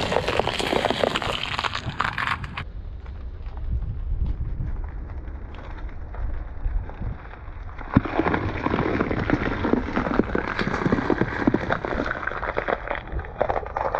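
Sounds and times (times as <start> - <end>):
peppers crunching under tire: 0.0 - 2.7, 4.8 - 13.9.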